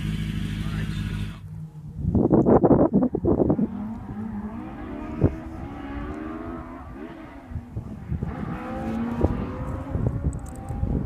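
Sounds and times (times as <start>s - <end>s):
rally car engine revving: 0.0s - 1.5s, 3.2s - 11.0s.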